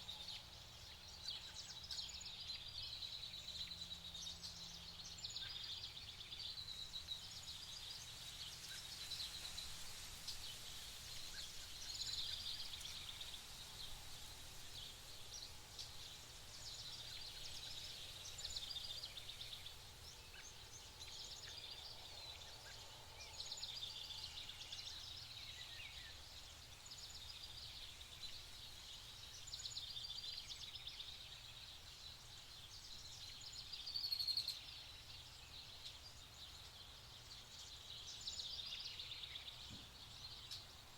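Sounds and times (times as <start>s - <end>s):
wild birds singing: 0.0s - 40.9s.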